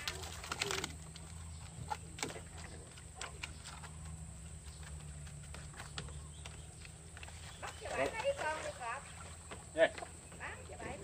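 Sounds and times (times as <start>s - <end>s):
small water splashes and taps: 0.0s - 11.0s
water pump engine humming: 0.0s - 11.0s.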